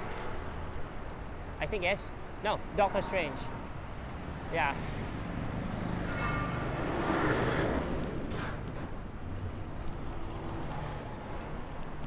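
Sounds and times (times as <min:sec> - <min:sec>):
traffic on wet road: 0:00.0 - 0:12.0.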